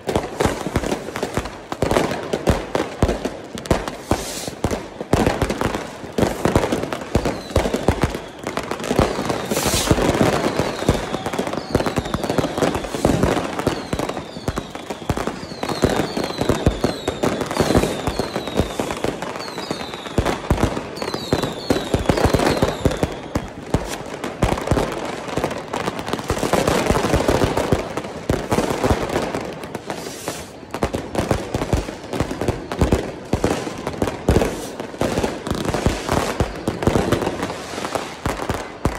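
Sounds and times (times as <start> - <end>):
firecrackers crackling bangs: 0.0 - 38.9
falling firework whistles: 2.8 - 38.9.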